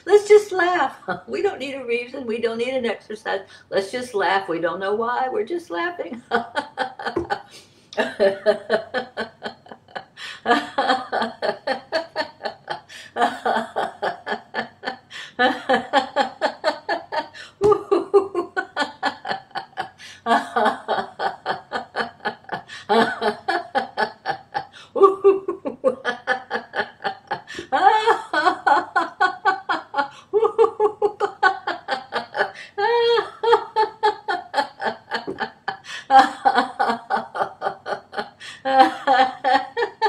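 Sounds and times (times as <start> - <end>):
woman laughing heartily: 6.1 - 40.0.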